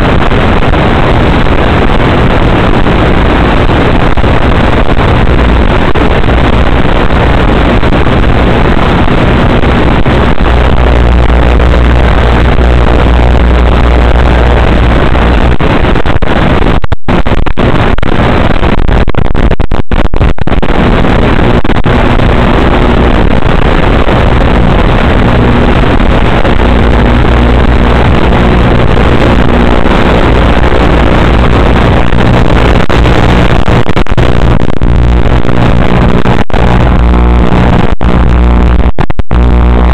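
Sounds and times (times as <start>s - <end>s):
loud static hiss: 0.0s - 39.9s
low hum: 0.0s - 39.9s.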